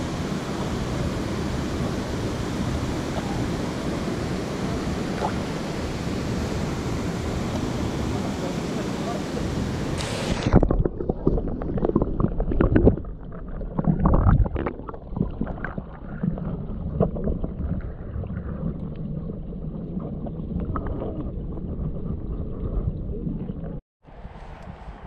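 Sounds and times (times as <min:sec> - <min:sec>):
underwater rumble of moving water: 0:00.0 - 0:23.8.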